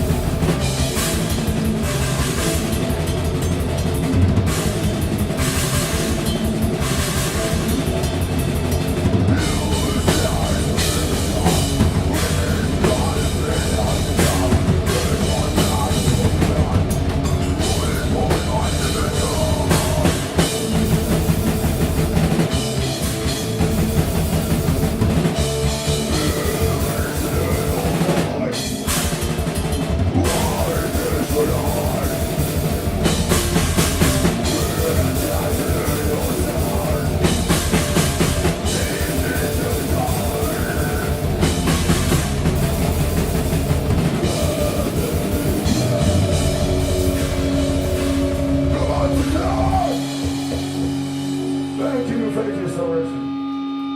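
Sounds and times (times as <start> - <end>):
fast drum-kit hits: 0.0 - 52.4
death metal band playing live: 0.0 - 53.9.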